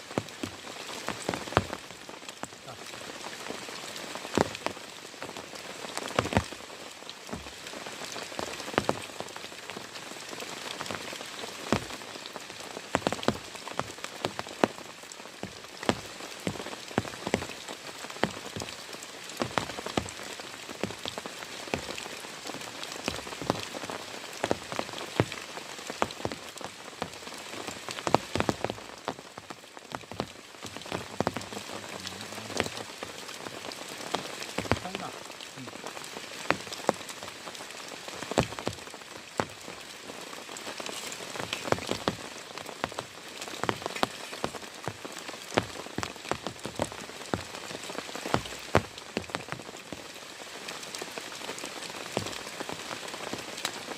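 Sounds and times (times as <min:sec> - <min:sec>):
heavy rain falling: 0:00.0 - 0:53.9
loud raindrops striking close: 0:00.0 - 0:53.9.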